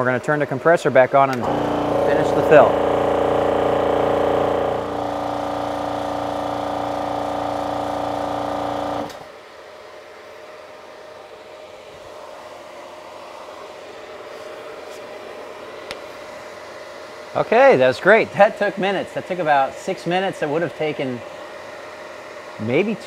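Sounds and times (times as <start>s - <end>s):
cooling system hum: 0.0s - 23.0s
air compressor running: 1.3s - 9.4s, 10.5s - 23.0s.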